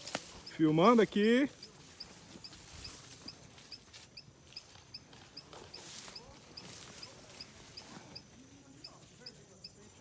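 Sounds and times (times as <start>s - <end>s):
wind and rustling: 0.0s - 10.0s.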